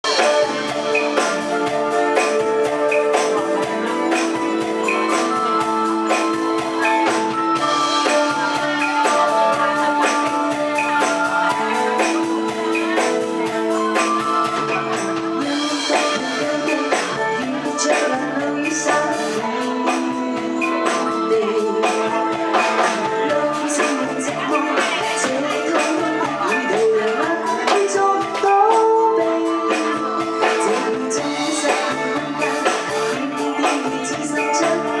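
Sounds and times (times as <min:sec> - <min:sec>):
quick drum-kit beat: 0:00.0 - 0:35.0
sustained band chords: 0:00.0 - 0:35.0.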